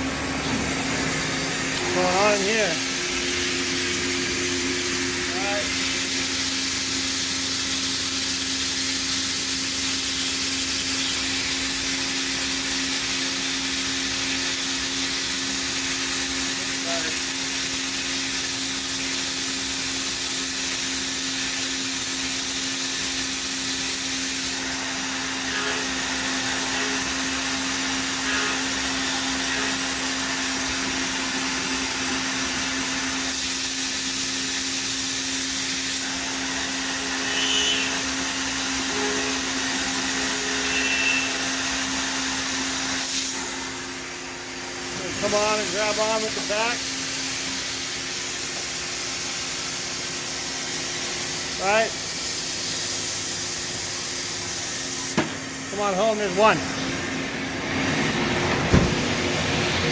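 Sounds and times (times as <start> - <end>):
continuous hiss: 0.0 - 59.9
lathes running: 0.0 - 59.9.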